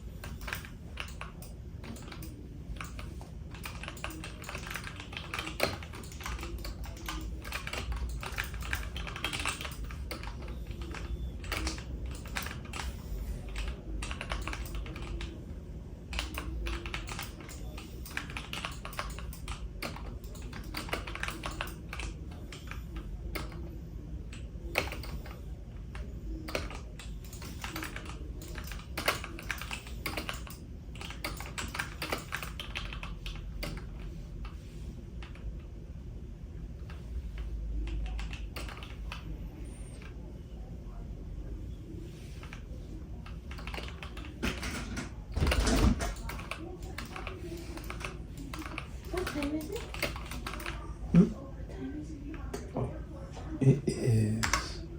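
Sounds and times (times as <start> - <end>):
computer keyboard keys clicking: 0.2 - 15.4, 16.1 - 23.7, 24.3 - 34.6, 35.2 - 35.5, 36.8 - 39.3, 42.4 - 50.9.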